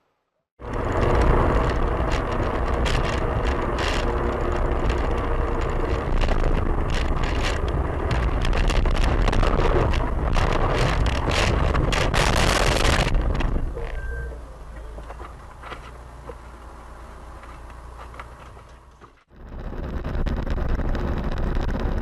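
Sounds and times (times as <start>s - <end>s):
car road and engine noise: 0.6s - 22.0s.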